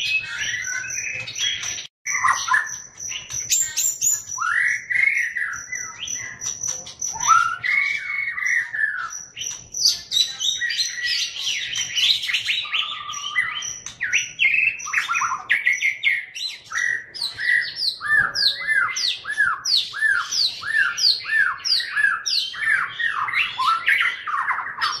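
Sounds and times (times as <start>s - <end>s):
bird singing whistles and chatter: 0.0s - 25.0s.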